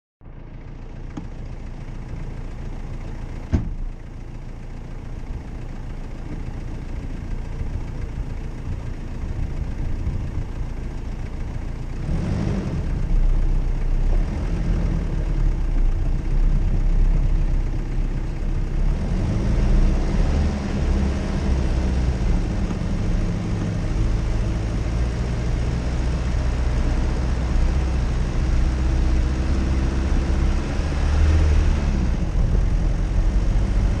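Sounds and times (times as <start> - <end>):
car engine running: 0.2 - 34.0.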